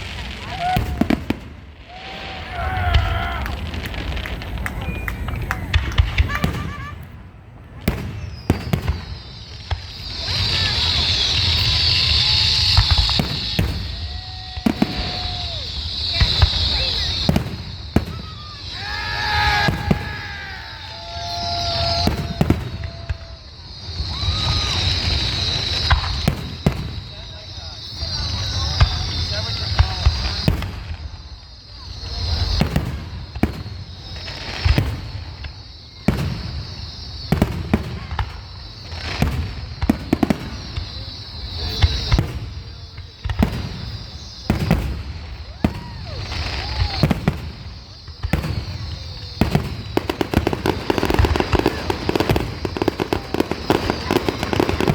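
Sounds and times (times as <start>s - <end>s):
fireworks bangs: 0.0s - 54.9s
fireworks hissing crackle: 0.0s - 54.9s
fireworks whistling: 0.0s - 54.9s.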